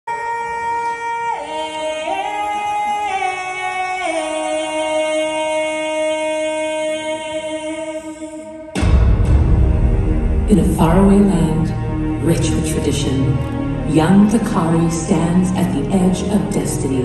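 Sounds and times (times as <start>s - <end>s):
wordless singing in two parts: 0.2s - 17.0s.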